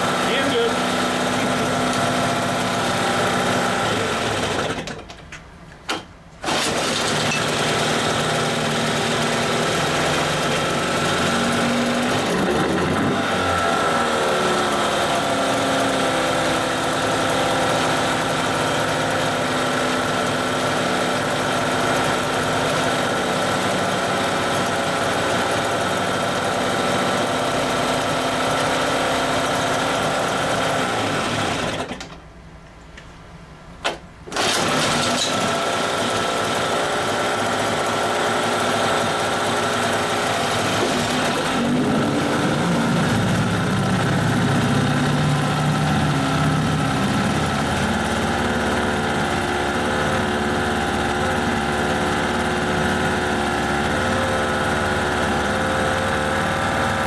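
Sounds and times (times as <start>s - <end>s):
outboard motor running: 0.0s - 4.9s, 6.4s - 32.0s, 34.3s - 57.0s.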